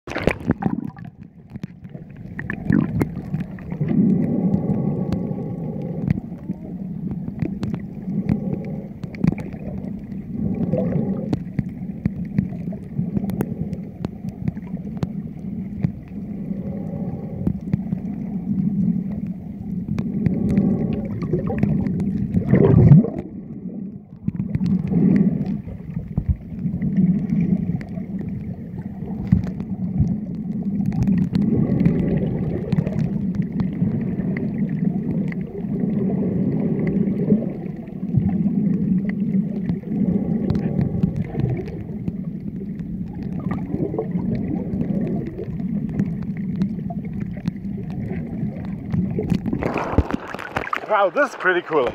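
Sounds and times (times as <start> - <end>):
underwater wash and bubbling: 0.0 - 51.9
faint steady hum: 0.1 - 51.9.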